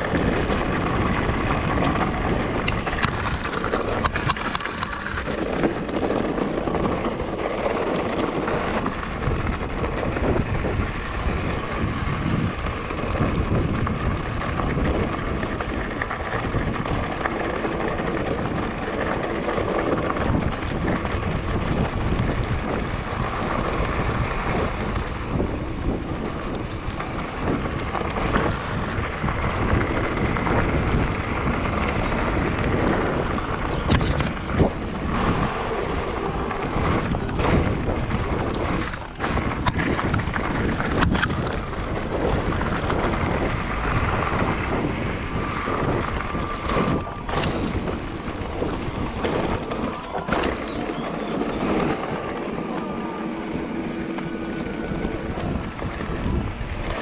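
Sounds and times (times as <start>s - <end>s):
bike tyres rattling over stones: 0.0s - 57.0s
wind rushing over microphone: 0.0s - 57.0s.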